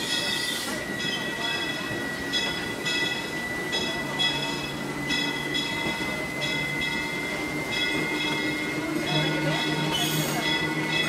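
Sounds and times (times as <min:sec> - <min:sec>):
wheels squealing on rails: 0:00.0 - 0:11.0.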